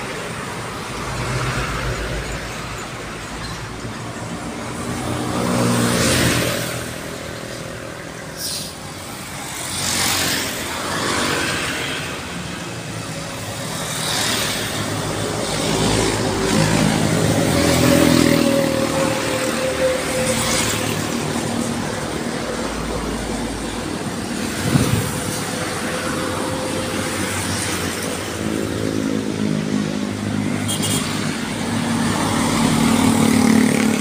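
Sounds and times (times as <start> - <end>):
truck engine: 0.0 - 34.0
vehicles passing: 0.0 - 34.0.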